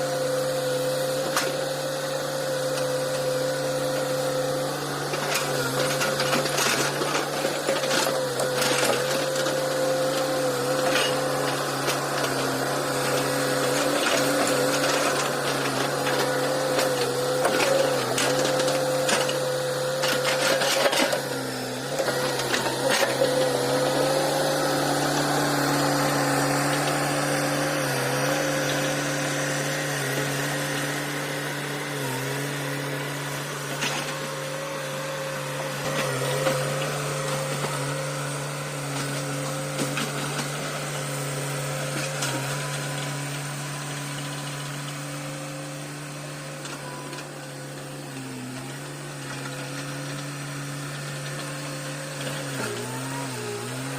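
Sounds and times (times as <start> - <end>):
excavator engine and hydraulic whine: 0.0 - 53.9.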